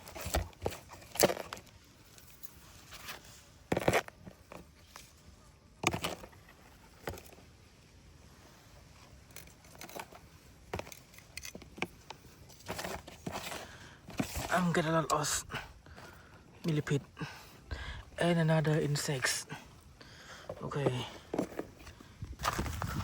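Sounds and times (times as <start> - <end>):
scraping and rustling handling noises: 0.0 - 17.7, 18.4 - 23.0
low steady background noise: 0.0 - 23.0.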